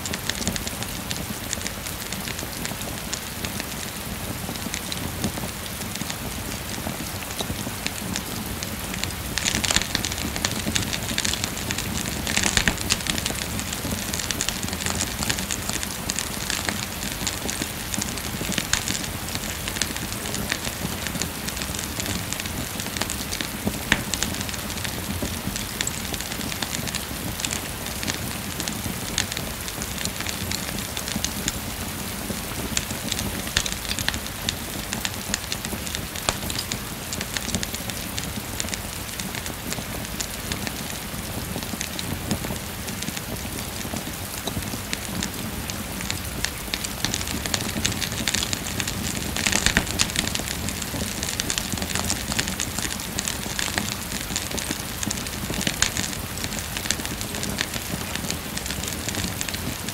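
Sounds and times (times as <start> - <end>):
steady rain falling: 0.0 - 59.9
wood fire crackling: 0.0 - 59.9.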